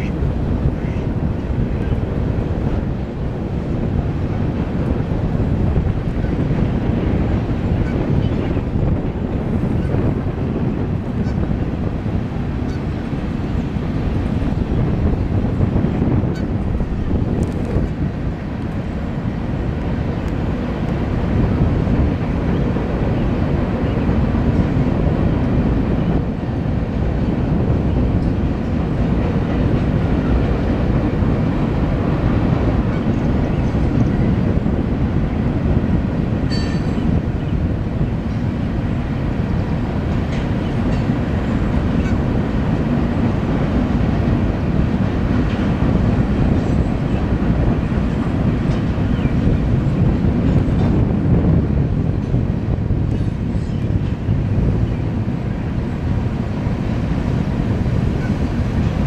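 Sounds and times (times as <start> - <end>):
train rumbling across steel bridge: 0.0 - 59.0.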